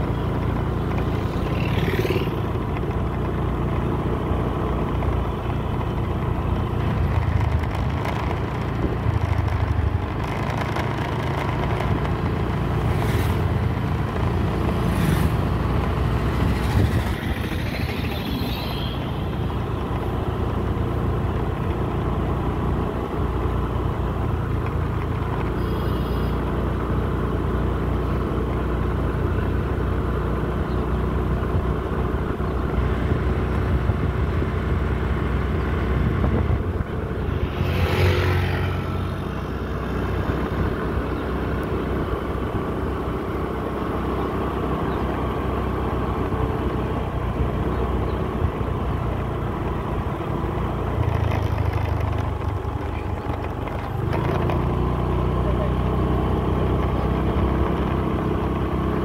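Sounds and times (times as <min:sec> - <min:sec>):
vehicle running on paved road: 0:00.0 - 0:59.0.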